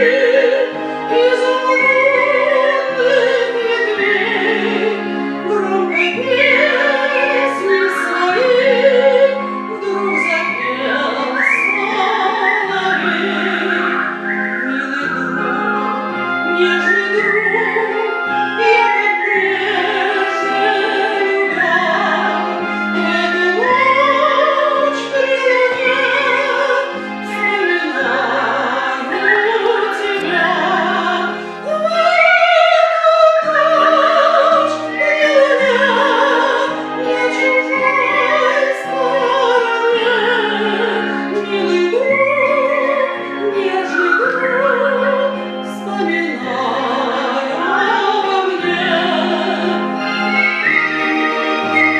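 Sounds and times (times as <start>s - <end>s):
classical singing voice: 0.0s - 51.9s
piano accompaniment: 0.0s - 51.9s.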